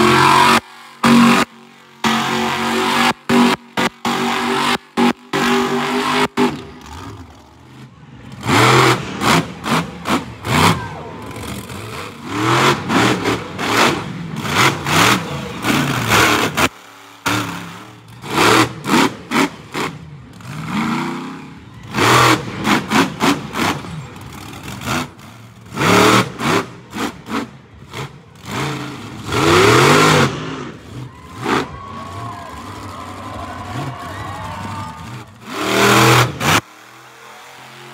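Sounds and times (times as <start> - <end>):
monster truck engines revving: 0.0 - 37.9.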